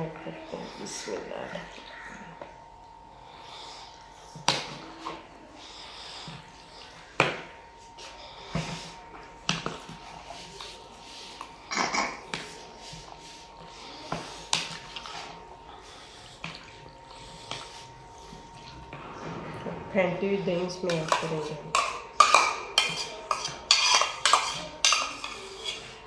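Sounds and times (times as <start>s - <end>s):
faint high hum: 0.0s - 23.4s
wet mixing and scraping: 3.7s - 26.0s.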